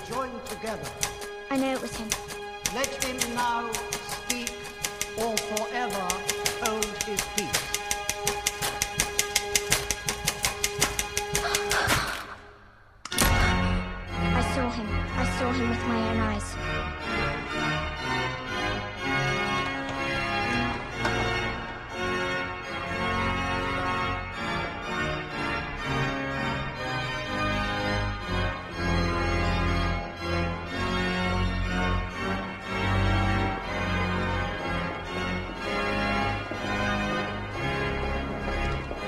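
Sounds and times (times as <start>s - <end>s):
church organ chords: 0.0s - 11.3s, 13.1s - 39.0s.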